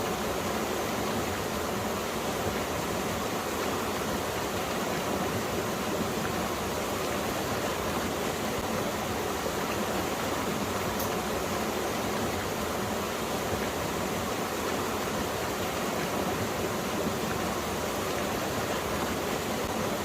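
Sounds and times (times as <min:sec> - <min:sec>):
stream flowing: 0:00.0 - 0:20.0.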